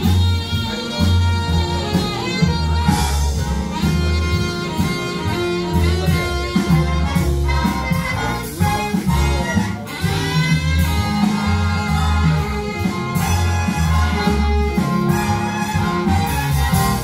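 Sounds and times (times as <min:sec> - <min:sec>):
deep held bass notes: 0:00.0 - 0:17.0
jazz band music over loudspeakers: 0:00.0 - 0:17.0.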